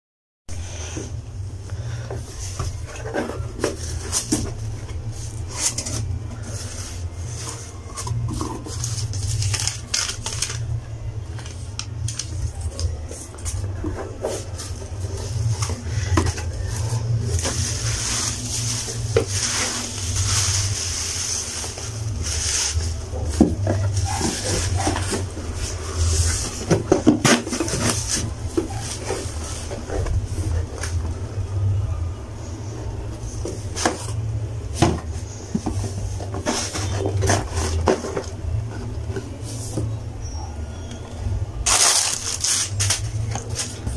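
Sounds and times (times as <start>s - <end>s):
cardboard and paper rustling: 0.8s - 31.8s, 32.6s - 40.2s, 41.6s - 43.9s.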